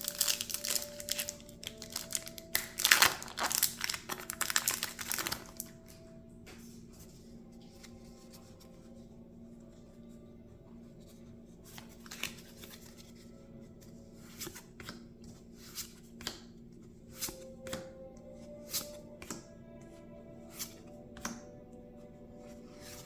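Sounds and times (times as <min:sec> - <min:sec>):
quiet background music: 0:00.0 - 0:23.0.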